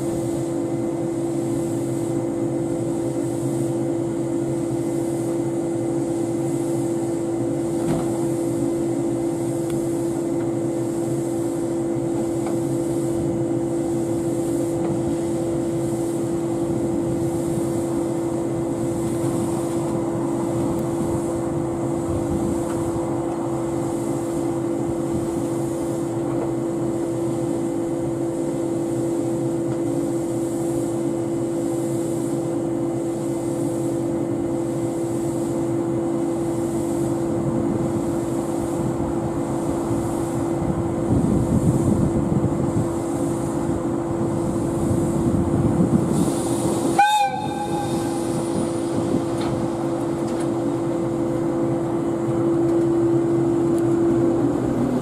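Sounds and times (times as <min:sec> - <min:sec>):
electric train equipment humming: 0:00.0 - 0:55.0.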